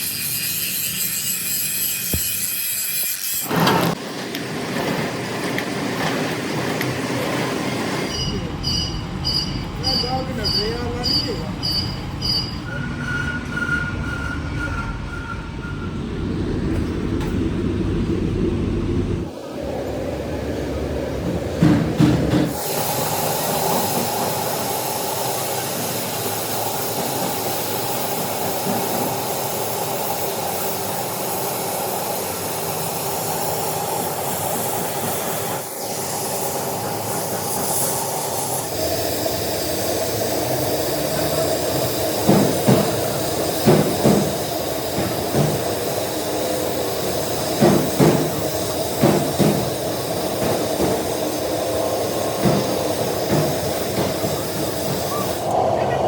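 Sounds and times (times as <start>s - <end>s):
workshop machinery whirring: 0.0s - 56.0s.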